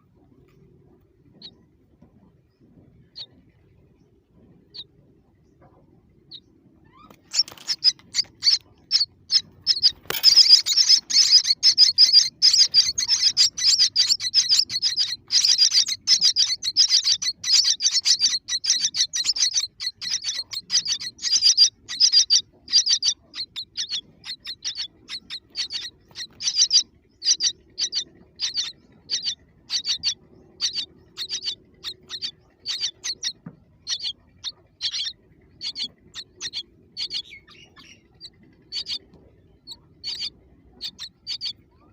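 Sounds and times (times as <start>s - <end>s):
baby birds chirping: 3.1s - 3.5s, 5.6s - 41.9s.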